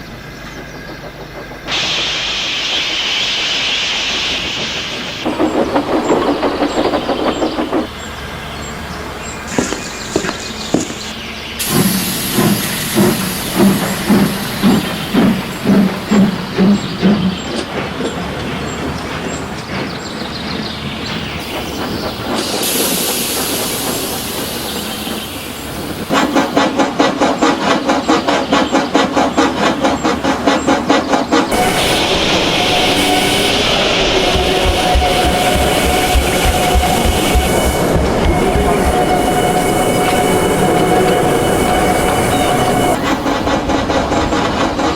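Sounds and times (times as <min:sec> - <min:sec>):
steam hissing: 0:00.0 - 0:44.9
steam locomotive chuffing: 0:00.0 - 0:44.9.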